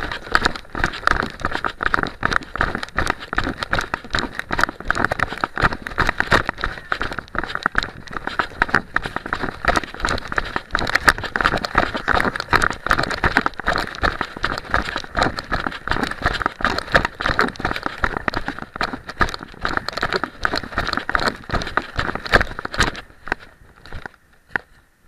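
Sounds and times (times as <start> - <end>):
camera rustling and knocking: 0.0 - 24.8.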